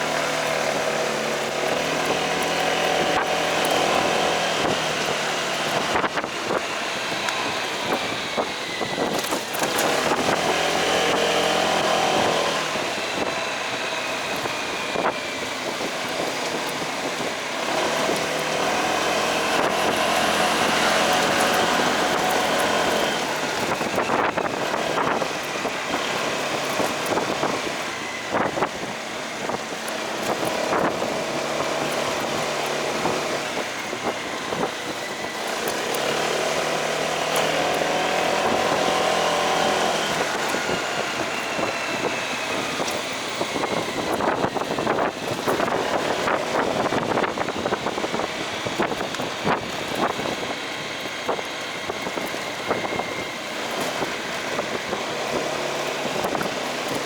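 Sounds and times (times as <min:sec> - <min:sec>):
motorcycle engine running: 0:00.0 - 0:57.0
other vehicles passing: 0:00.0 - 0:57.0
road noise: 0:00.0 - 0:57.0.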